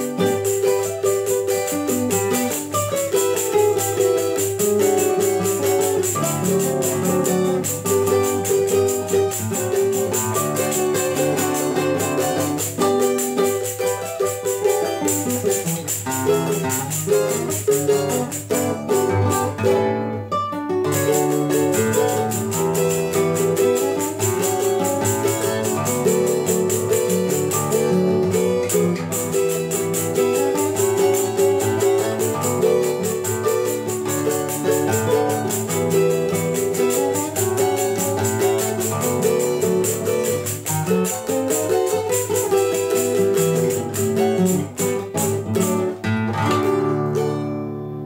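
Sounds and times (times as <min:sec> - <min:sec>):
tambourine jingling rhythm: 0:00.0 - 0:20.0, 0:20.8 - 0:46.1
classical guitar: 0:00.0 - 0:48.0
small guitar strumming: 0:00.0 - 0:48.0.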